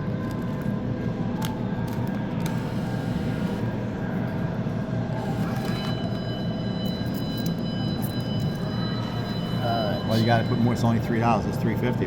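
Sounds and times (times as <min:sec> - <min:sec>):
machinery humming: 0:00.8 - 0:12.0.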